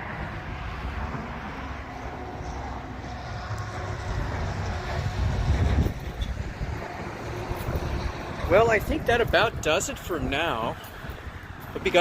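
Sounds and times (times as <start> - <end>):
outdoor ambience: 0.0 - 12.0
wind buffeting microphone: 0.0 - 12.0.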